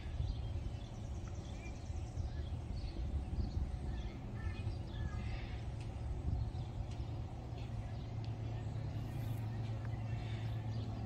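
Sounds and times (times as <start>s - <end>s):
small birds chirping: 0.0s - 11.0s
wind buffeting microphone: 0.0s - 11.0s.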